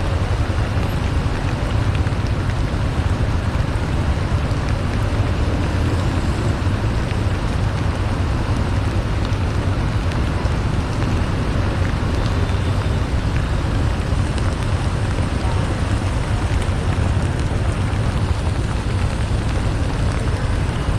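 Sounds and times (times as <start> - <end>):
rain and wet road spray: 0.0 - 20.9.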